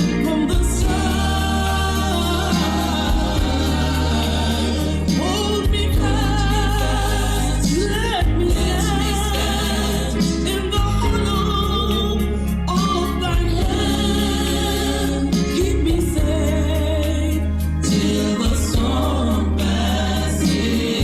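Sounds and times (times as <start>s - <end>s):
choir singing gospel: 0.0s - 21.0s
sustained bass accompaniment: 0.0s - 21.0s.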